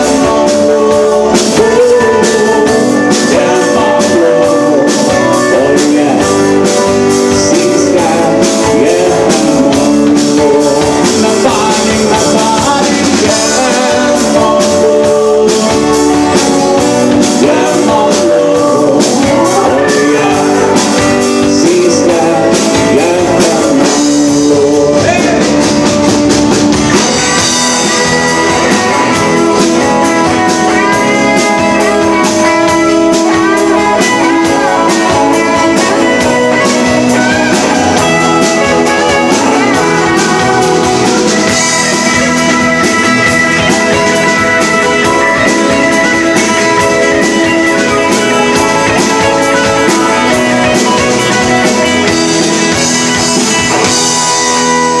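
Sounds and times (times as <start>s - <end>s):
drums and cymbals: 0.0s - 55.0s
electric guitar bending notes: 0.0s - 55.0s.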